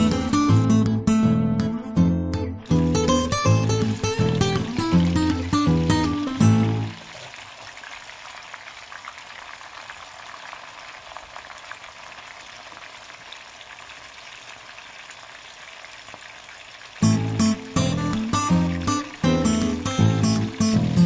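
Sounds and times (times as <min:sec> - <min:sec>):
beans deep-frying in oil: 0:02.6 - 0:21.0.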